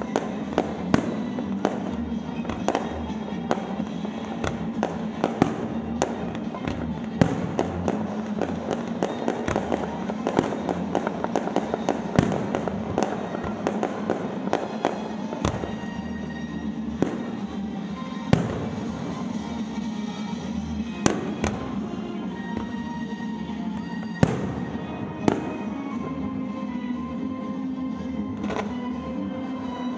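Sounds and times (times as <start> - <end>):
loud fireworks booms: 0.0 - 26.2
fireworks bangs and crackling: 0.0 - 29.9
music playing: 0.0 - 29.9.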